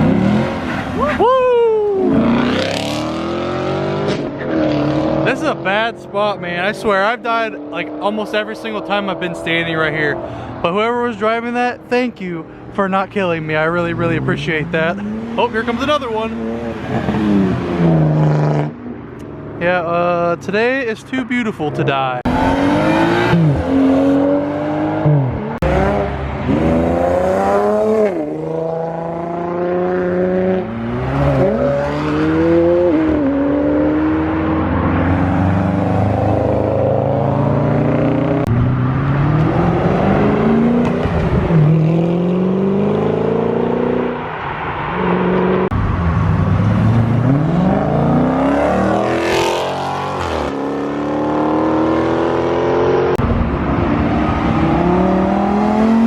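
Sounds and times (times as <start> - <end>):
cars accelerating past: 1.9 - 10.8, 13.8 - 19.6, 21.7 - 56.0.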